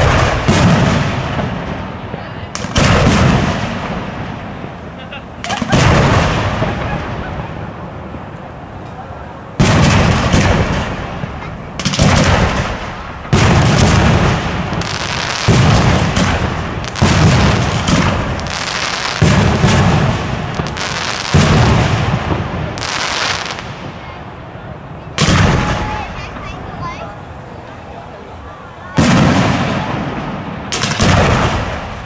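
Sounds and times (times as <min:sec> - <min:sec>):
fireworks booming: 0:00.0 - 0:32.0.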